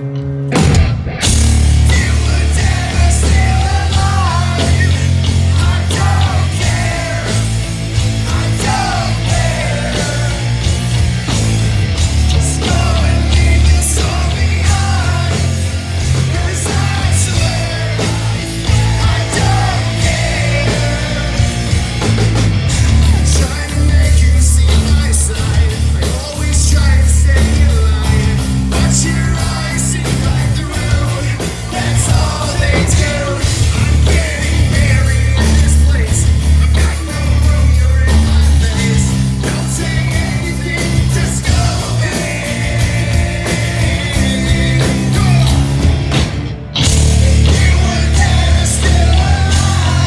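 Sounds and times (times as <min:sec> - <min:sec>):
bass guitar: 0:00.0 - 0:50.0
distorted electric guitars: 0:00.0 - 0:50.0
drums: 0:00.0 - 0:50.0
man singing: 0:01.6 - 0:07.6, 0:08.2 - 0:11.0, 0:12.2 - 0:21.8, 0:22.8 - 0:45.9, 0:46.8 - 0:50.0.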